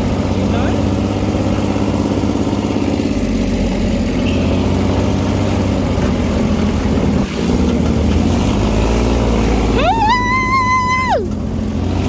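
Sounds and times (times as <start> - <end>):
buggy engine running: 0.0 - 12.0.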